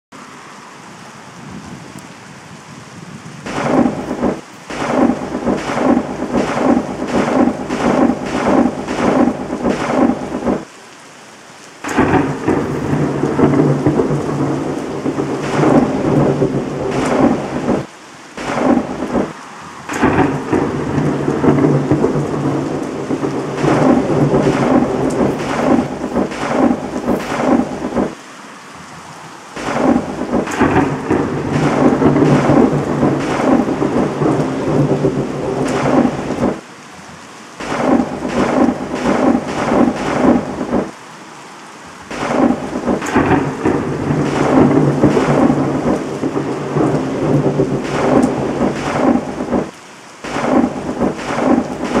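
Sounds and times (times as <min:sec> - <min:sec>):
heavy rain: 0:00.1 - 0:52.0
rolling thunder: 0:02.8 - 0:10.7, 0:11.8 - 0:28.2, 0:29.6 - 0:36.6, 0:37.6 - 0:41.0, 0:42.0 - 0:52.0.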